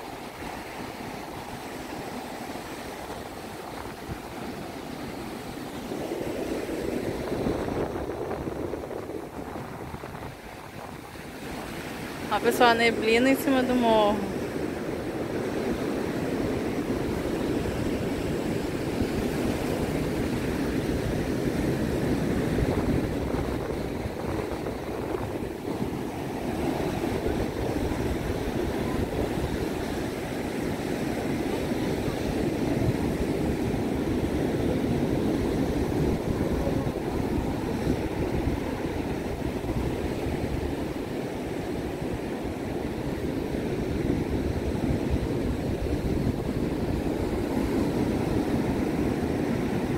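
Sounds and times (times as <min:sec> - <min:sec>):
ocean surf on beach: 0:00.0 - 0:49.9
wind buffeting microphone: 0:00.0 - 0:49.9.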